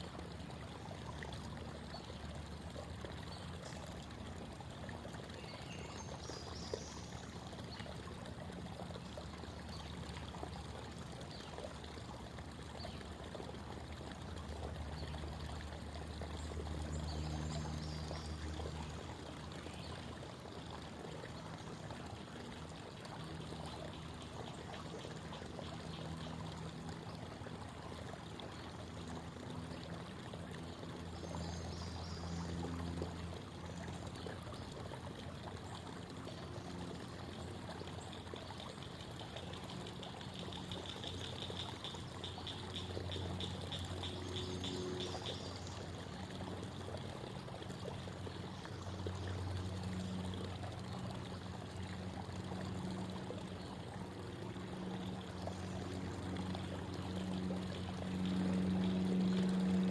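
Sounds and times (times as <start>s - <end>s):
creek water babbling over stones: 0.0s - 59.9s.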